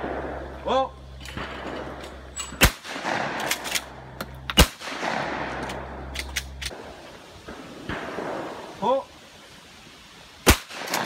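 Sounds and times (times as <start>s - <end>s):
shotgun shots: 0.0s - 8.8s, 10.4s - 11.0s.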